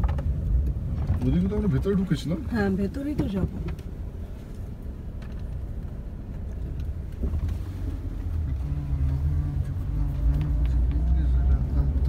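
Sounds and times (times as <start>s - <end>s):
car engine and road noise: 0.0s - 12.0s
steady engine hum: 0.0s - 12.0s.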